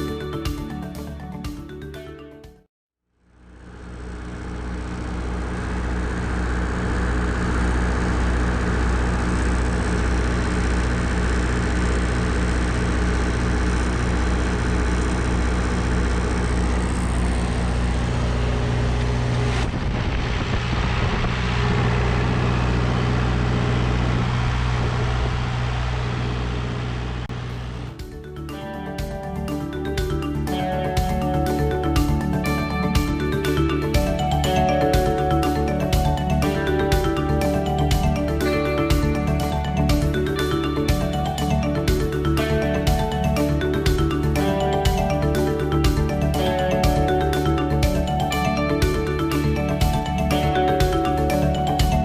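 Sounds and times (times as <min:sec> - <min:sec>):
diesel engine running: 0:03.2 - 0:52.0.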